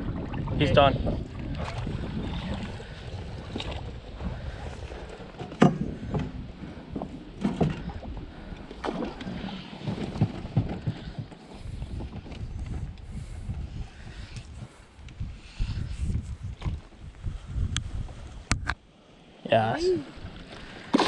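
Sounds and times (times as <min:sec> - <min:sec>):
wind rumble on microphone: 0:00.0 - 0:18.9.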